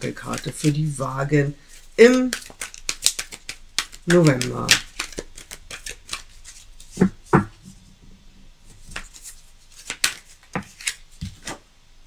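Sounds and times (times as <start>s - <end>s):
cards being shuffled: 0.0s - 7.8s, 8.7s - 11.6s.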